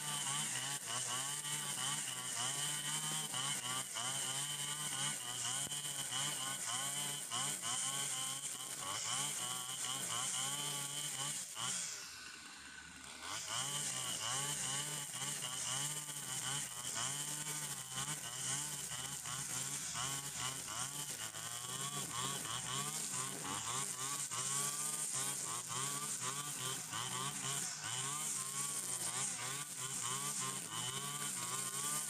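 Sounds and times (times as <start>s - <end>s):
brush cutter engine revving: 0.0s - 32.0s.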